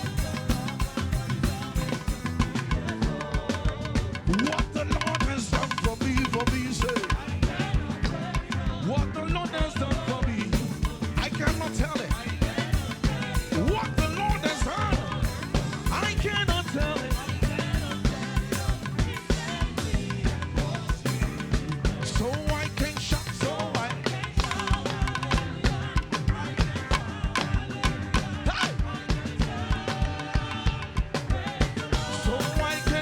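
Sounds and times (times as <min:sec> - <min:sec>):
drum kit beat: 0:00.0 - 0:33.0
live gospel band: 0:00.0 - 0:33.0.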